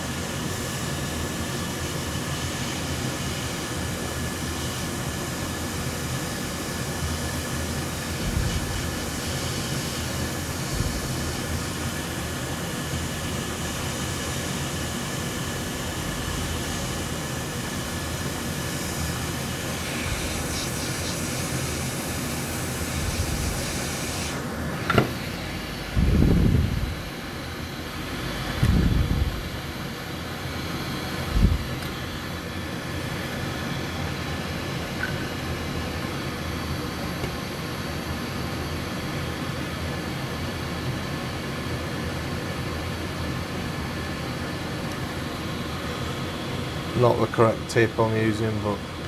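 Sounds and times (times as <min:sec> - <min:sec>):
hot air station blowing hiss: 0:00.0 - 0:49.0.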